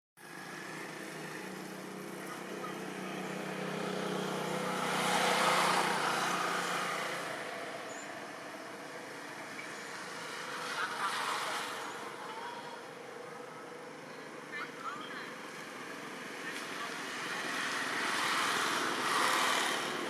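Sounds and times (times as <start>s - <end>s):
tyre and road noise: 0.2s - 20.0s
vehicle engine hum: 0.2s - 20.0s.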